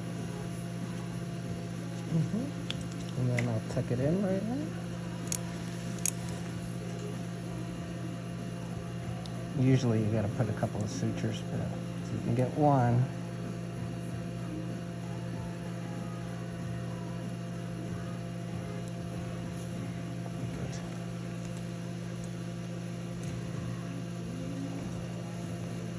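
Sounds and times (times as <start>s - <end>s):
electrical hum: 0.0s - 25.9s.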